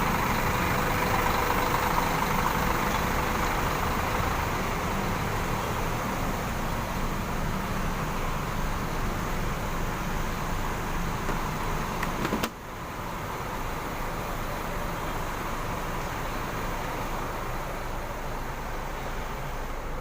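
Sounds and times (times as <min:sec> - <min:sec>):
diesel bus engines idling: 0:00.0 - 0:20.0.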